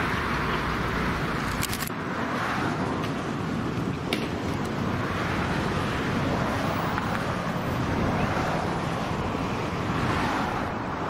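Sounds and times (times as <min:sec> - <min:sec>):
traffic: 0:00.0 - 0:11.0.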